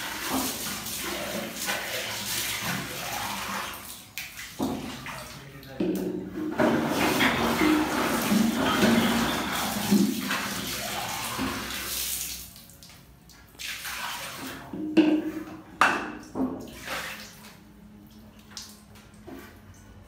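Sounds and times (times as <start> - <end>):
water splashing onto tiled floor: 0.0 - 6.1, 6.7 - 14.7, 16.6 - 19.8.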